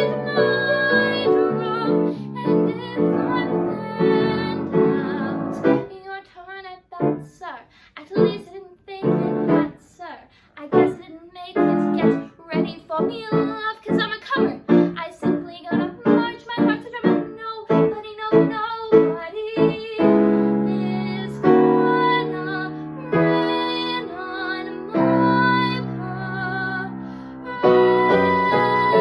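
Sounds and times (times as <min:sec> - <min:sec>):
piano accompaniment: 0:00.0 - 0:06.0, 0:09.0 - 0:09.8, 0:11.6 - 0:29.0
woman singing a show tune: 0:00.0 - 0:29.0.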